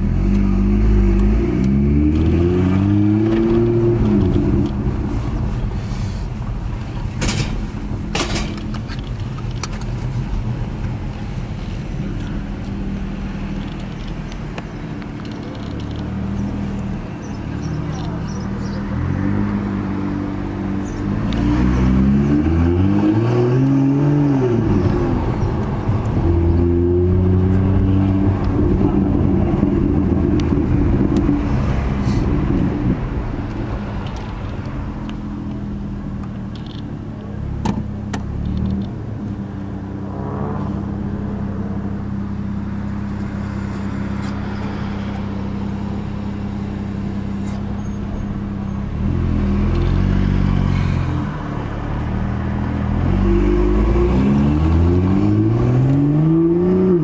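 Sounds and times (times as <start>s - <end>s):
car engine heard from cabin: 0.0s - 19.2s, 24.4s - 56.0s.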